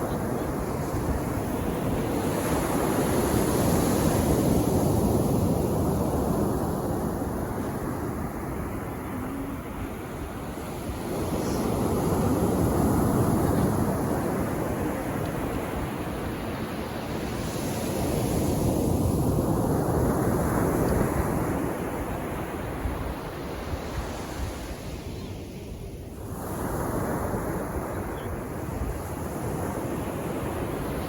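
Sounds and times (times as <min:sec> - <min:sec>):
sea waves washing onto beach: 0:00.0 - 0:31.0.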